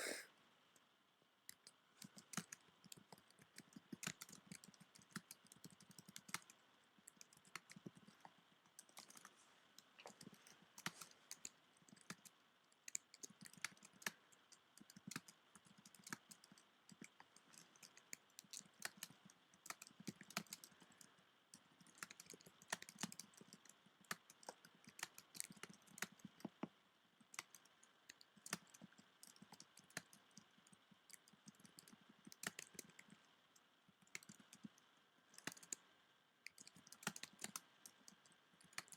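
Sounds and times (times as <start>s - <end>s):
typing on computer keyboard: 1.5s - 33.2s, 34.0s - 35.8s, 36.5s - 38.9s.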